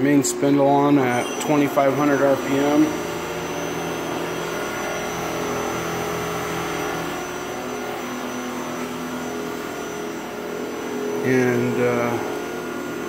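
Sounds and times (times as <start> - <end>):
high steady whine: 0.0 - 13.0
lathe machine hum: 0.0 - 13.0.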